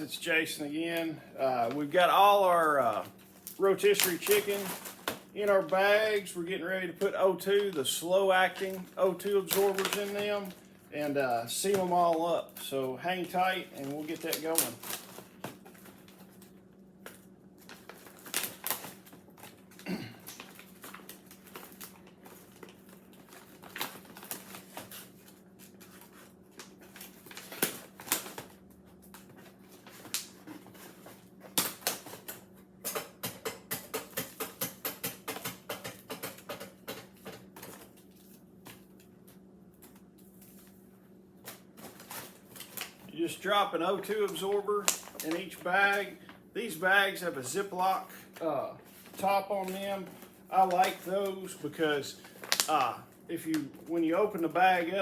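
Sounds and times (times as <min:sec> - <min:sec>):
plastic bags crinkling and clicking: 0:00.0 - 0:55.0.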